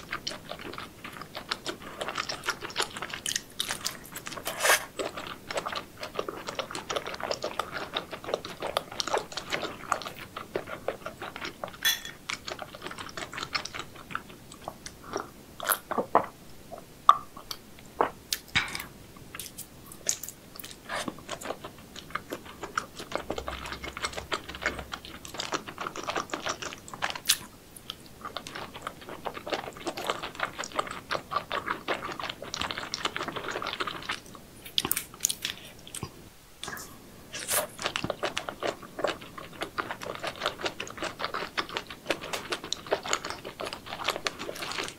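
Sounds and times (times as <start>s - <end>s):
person chewing and crunching seafood: 0.0s - 16.4s, 17.1s - 44.9s.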